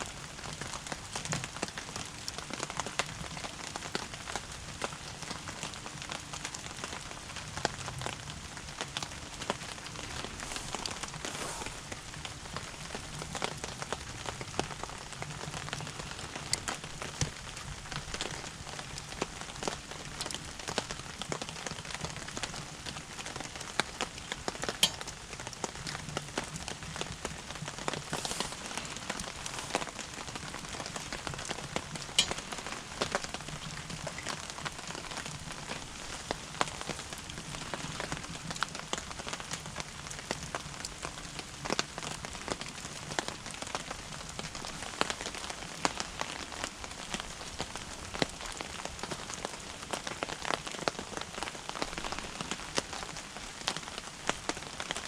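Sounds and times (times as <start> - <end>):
firewood burning and crackling: 0.0 - 55.0.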